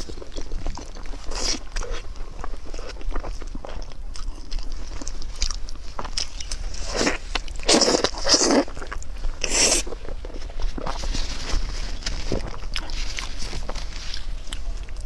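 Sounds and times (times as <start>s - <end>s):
wet chewing and biting: 0.0s - 15.0s.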